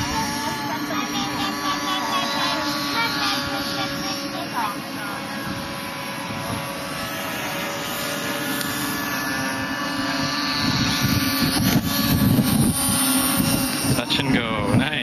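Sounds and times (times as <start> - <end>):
wind rumble on microphone: 0.0 - 1.6, 2.8 - 7.7, 8.9 - 15.0
model airplane motor whining: 0.0 - 15.0.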